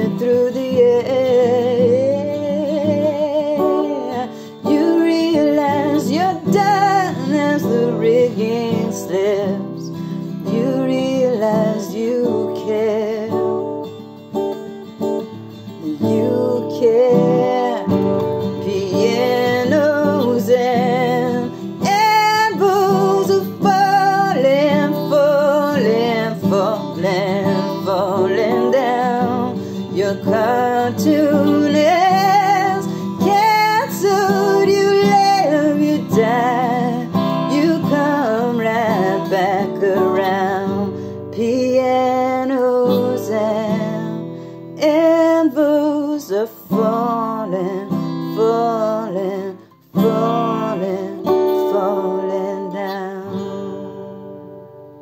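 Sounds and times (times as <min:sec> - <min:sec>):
woman singing with vibrato: 0:00.0 - 0:13.9, 0:15.8 - 0:54.1
strummed acoustic guitar: 0:00.0 - 0:55.0.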